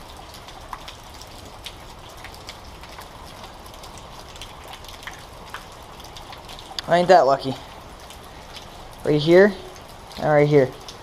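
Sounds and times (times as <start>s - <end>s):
drips ticking: 0.0s - 11.0s
steady rain: 0.0s - 11.0s.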